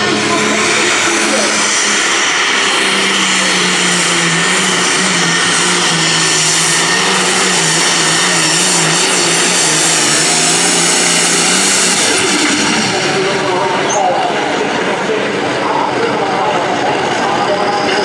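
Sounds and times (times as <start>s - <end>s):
high whine: 0.0s - 18.0s
tractor diesel engine under load: 0.0s - 18.0s.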